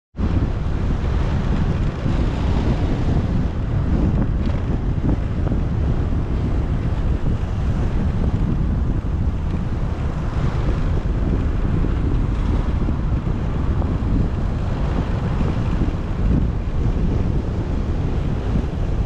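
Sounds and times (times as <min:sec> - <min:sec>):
motorcycle engine and road noise: 0:00.2 - 0:19.0
wind buffeting microphone: 0:00.2 - 0:19.0.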